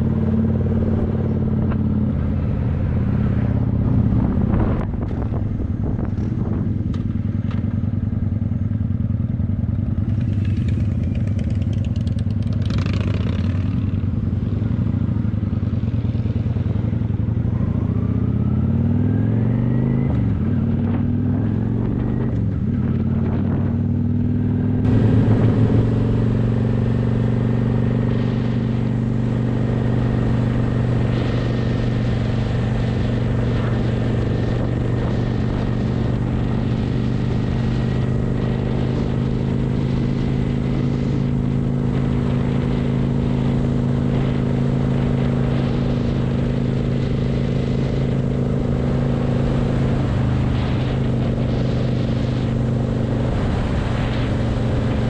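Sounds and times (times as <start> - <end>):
wind noise on microphone: 0.0 - 8.6, 10.0 - 55.0
motorcycle engine running: 0.0 - 55.0.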